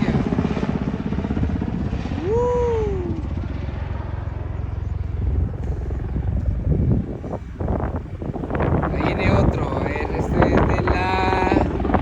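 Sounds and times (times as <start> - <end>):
helicopter rotor rumble: 0.0 - 12.0.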